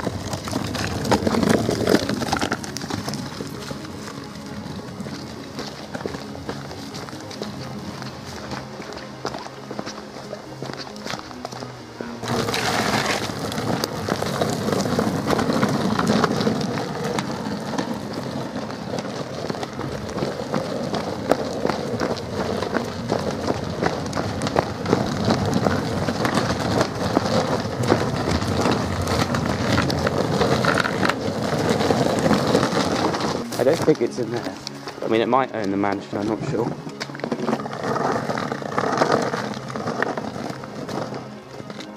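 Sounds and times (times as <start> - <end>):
grit clicking under wheels: 0.0 - 41.9
skateboard wheels rumbling on tarmac: 0.0 - 41.9.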